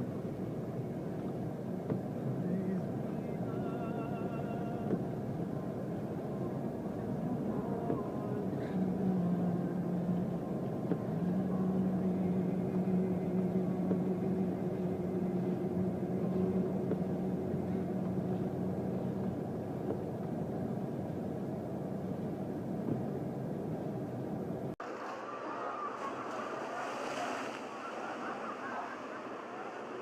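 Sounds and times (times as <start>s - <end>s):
vehicle engine hum: 0.0s - 24.8s
low rumbling noise: 0.0s - 30.0s.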